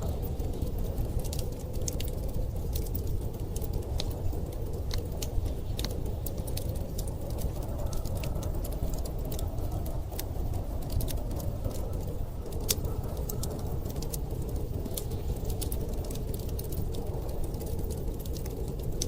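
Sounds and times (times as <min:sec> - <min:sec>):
storm wind rumble: 0:00.0 - 0:19.0
wood fire crackling: 0:00.0 - 0:19.0.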